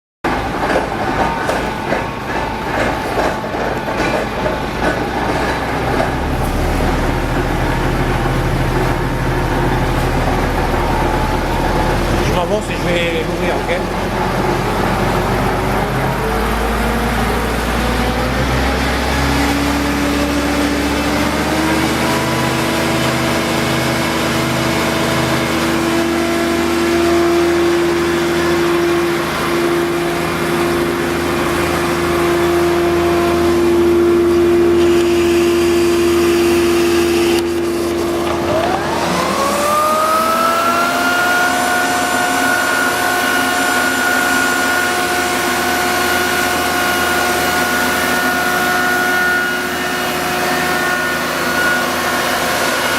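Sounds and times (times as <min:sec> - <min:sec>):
ventilation fan whirring: 0:00.3 - 0:52.9
high whine rising in pitch: 0:06.2 - 0:52.9.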